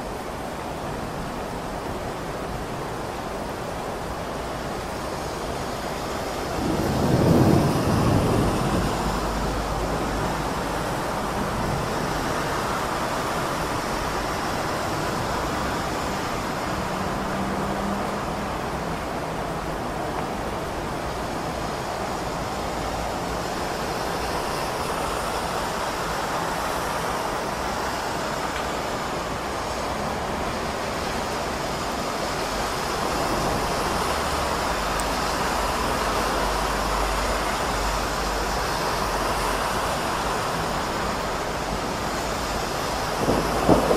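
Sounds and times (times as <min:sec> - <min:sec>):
heavy rain hissing: 0:00.0 - 0:43.9
passing cars: 0:04.6 - 0:43.9.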